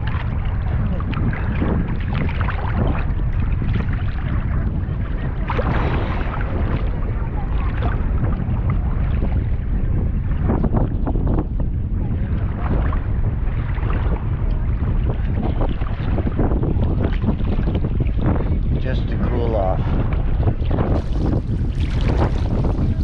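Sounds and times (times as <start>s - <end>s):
sea water splashing: 0.0s - 23.0s
wind buffeting microphone: 0.0s - 23.0s.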